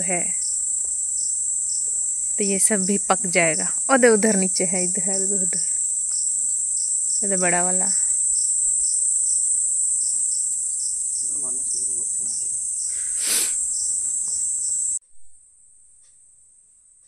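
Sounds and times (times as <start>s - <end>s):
insects singing: 0.0s - 15.0s.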